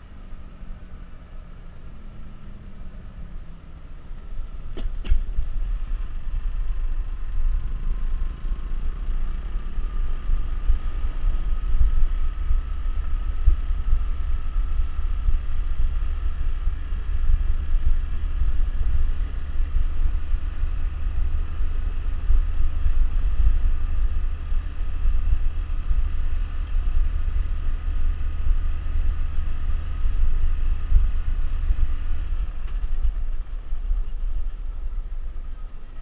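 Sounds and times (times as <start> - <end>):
motorcycle engine running: 0.0 - 36.0
wind noise on microphone: 4.3 - 36.0.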